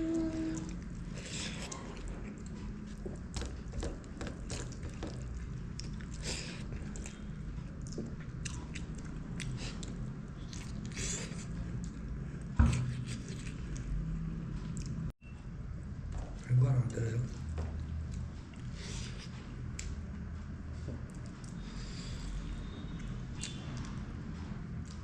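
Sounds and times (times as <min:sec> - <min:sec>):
person chewing and smacking food: 0:00.4 - 0:15.1, 0:17.5 - 0:21.7, 0:22.9 - 0:25.0.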